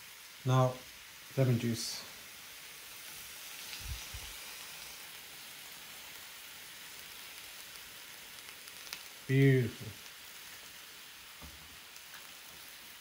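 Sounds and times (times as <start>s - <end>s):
meat sizzling on a platter: 0.0s - 13.0s.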